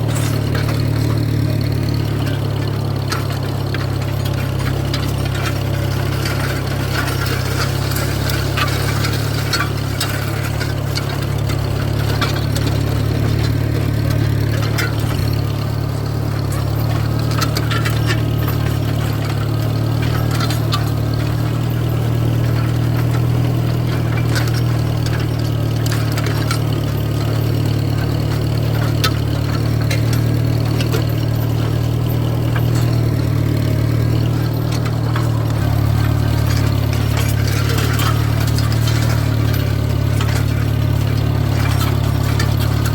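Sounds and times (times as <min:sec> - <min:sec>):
light clicks and rattles: 0:00.0 - 0:42.9
tractor engine running: 0:00.0 - 0:42.9.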